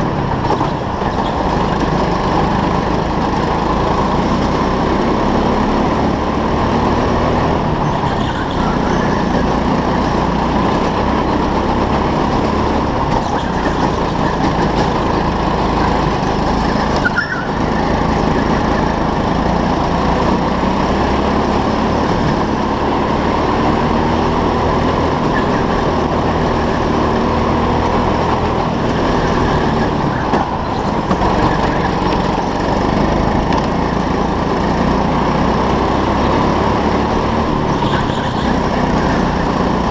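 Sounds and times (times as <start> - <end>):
go-kart motor running: 0.0 - 39.9.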